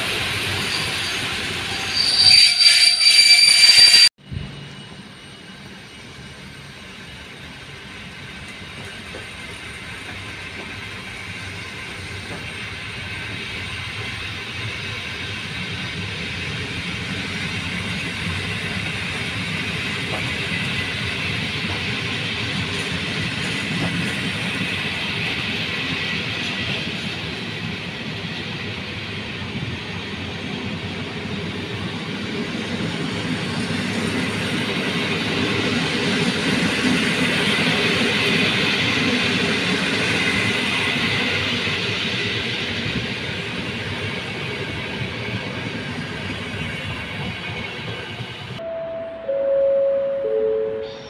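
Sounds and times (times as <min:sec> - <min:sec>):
train passing on rails: 0:00.0 - 0:51.0.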